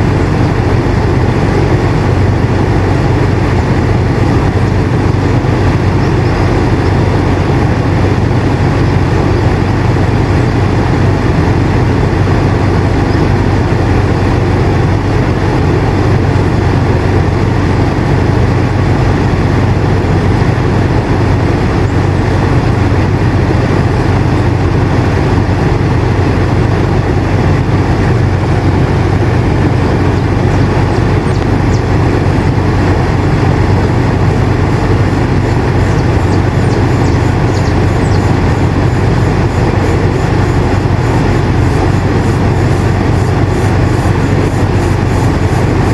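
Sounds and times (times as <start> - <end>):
air conditioner humming: 0.0 - 45.9.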